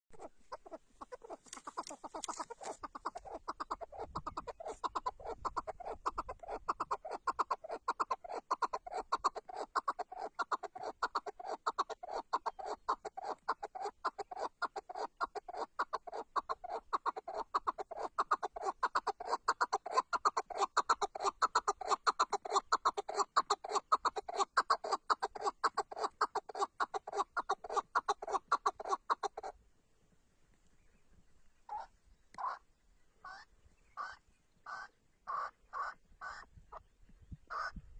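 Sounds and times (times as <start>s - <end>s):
partridge clucking call: 0.1s - 29.6s, 31.7s - 32.6s, 33.2s - 37.8s.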